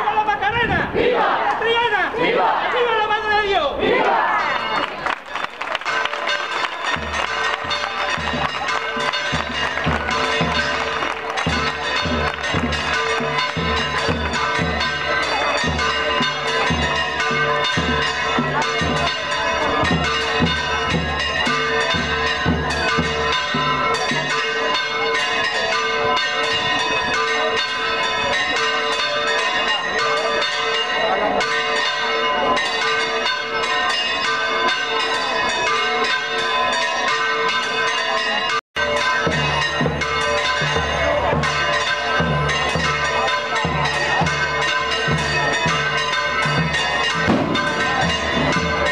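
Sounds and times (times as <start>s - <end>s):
church bells pealing: 4.1s - 48.9s.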